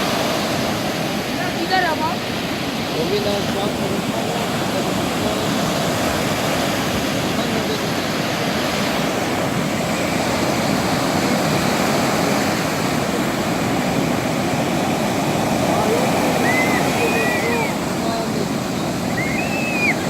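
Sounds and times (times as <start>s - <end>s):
sea waves breaking on beach: 0.0s - 20.0s.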